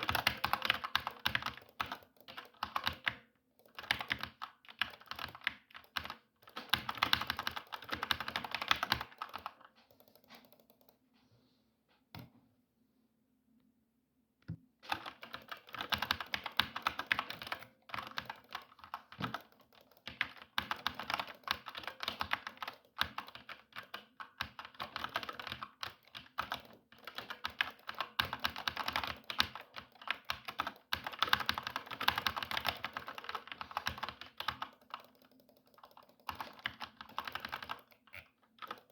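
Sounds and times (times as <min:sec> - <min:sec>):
fast typing on keyboard: 0:00.0 - 0:11.0, 0:14.9 - 0:38.9.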